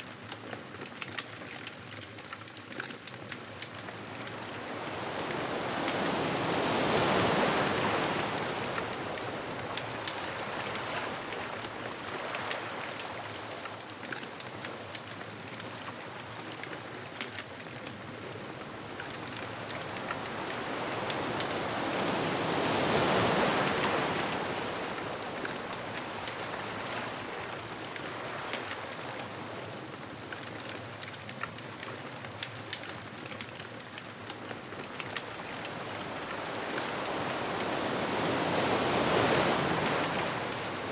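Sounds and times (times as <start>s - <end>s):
faint crackles: 0.0s - 40.9s
ocean waves breaking on beach: 3.7s - 40.9s.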